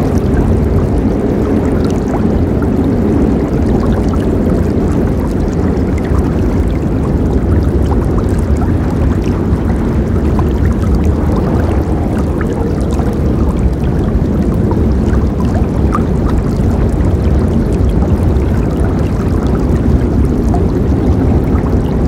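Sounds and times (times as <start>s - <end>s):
water splashes and gurgles: 0.0s - 22.0s.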